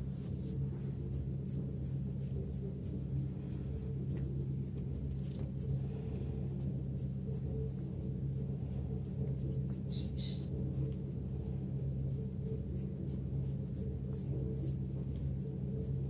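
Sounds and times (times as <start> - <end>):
hand rubbing cat fur: 0.0 - 16.0
steady low hum: 0.0 - 16.0.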